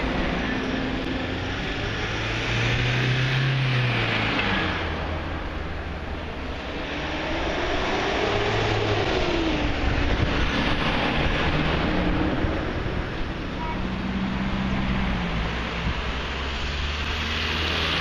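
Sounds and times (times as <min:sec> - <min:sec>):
vehicle approaching: 0:00.0 - 0:18.0.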